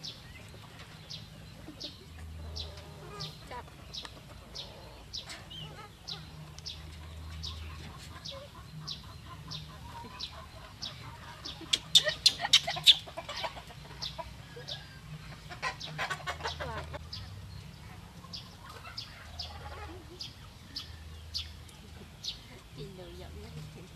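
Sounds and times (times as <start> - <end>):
quails chirping: 0.0 - 23.9.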